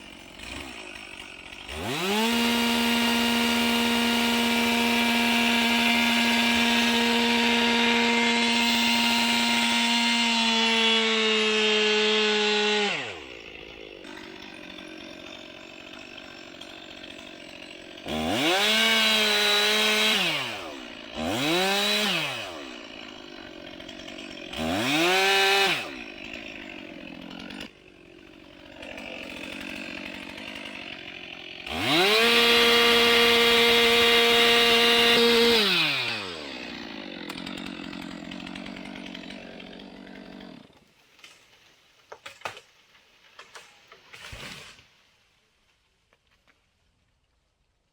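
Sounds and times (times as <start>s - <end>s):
chainsaw cutting wood: 0.0s - 45.2s.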